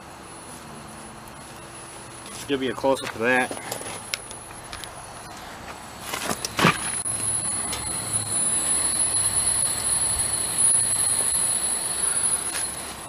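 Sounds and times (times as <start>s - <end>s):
blower high whine: 0.0s - 13.0s.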